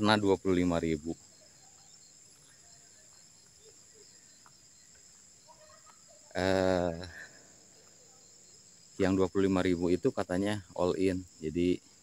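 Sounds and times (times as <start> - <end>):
high-pitched insect chirring: 0.0 - 12.0.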